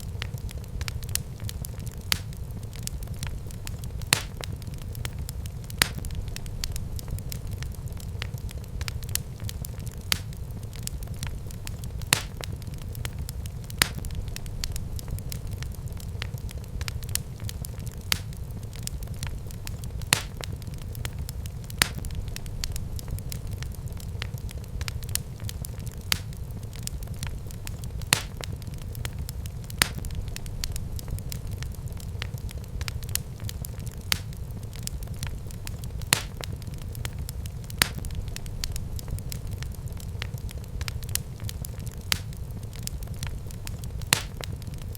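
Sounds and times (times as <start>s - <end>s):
flames rumbling: 0.0s - 44.9s
wood fire crackling and popping: 0.0s - 44.9s.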